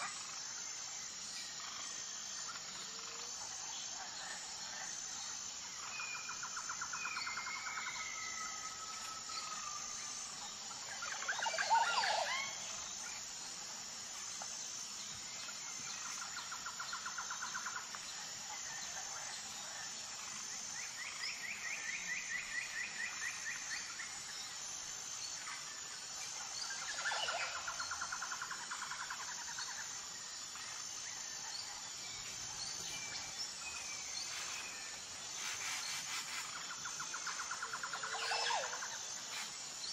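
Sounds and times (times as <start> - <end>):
high insect-like drone: 0.0 - 39.9.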